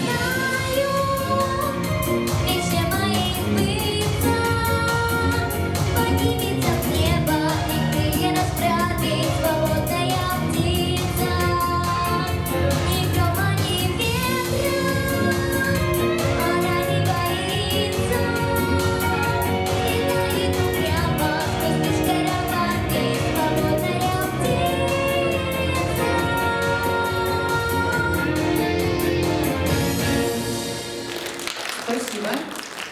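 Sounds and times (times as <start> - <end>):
woman singing pop song: 0.0 - 30.1
backing track with steady beat: 0.0 - 31.0.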